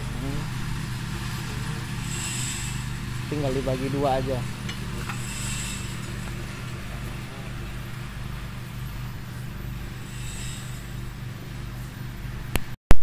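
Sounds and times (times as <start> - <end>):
motor humming: 0.0 - 12.6.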